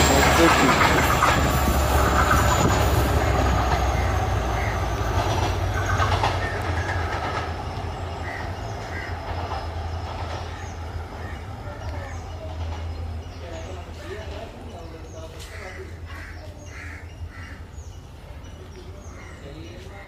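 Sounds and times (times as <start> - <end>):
train wheels clattering on rails: 0.0 - 16.3
diesel locomotive engine drone: 0.0 - 20.0.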